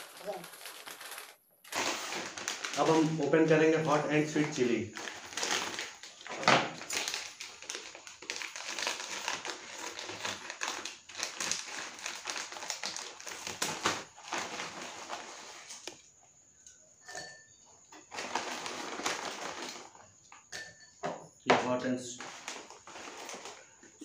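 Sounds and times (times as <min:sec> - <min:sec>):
chip bag crinkling: 0:00.0 - 0:16.0, 0:18.0 - 0:20.0, 0:22.1 - 0:23.8.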